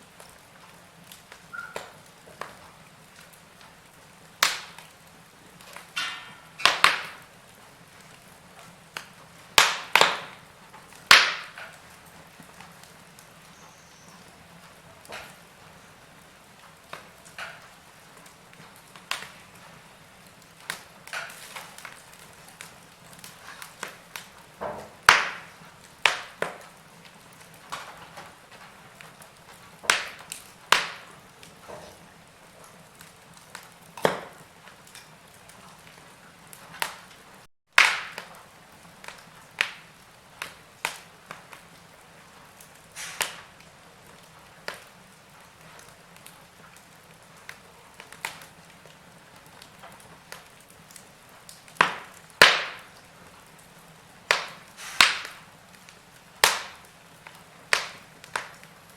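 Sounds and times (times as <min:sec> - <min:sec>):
faint steady hiss: 0:00.0 - 0:37.5, 0:38.1 - 0:58.9
wood fire crackling: 0:00.0 - 0:58.9
fire pops and snaps: 0:00.1 - 0:58.9.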